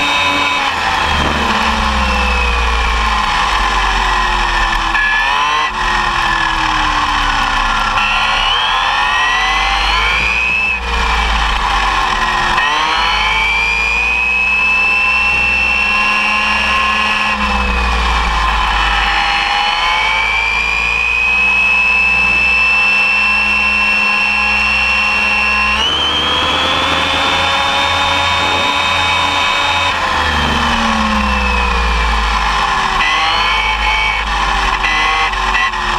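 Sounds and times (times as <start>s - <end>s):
electric motor whining: 0.0s - 35.9s
tyres rumbling on asphalt: 0.0s - 35.9s.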